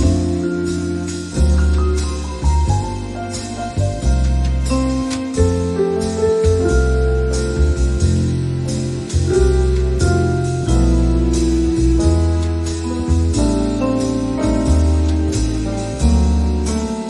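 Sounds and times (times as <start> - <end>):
heavy bass line with beat: 0.0 - 17.0.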